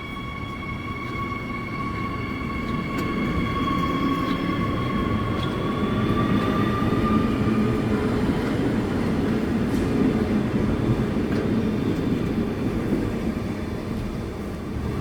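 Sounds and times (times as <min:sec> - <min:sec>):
electric train whine: 0:00.0 - 0:12.9.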